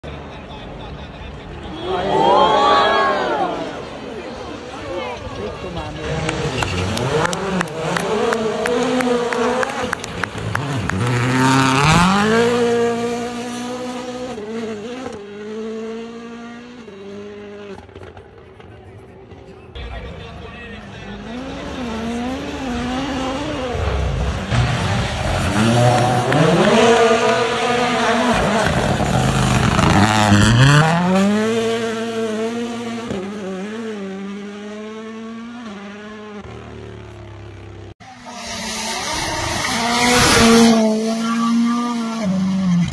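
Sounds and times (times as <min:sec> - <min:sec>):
car engine accelerating hard: 0:05.5 - 0:18.2, 0:21.0 - 0:42.9.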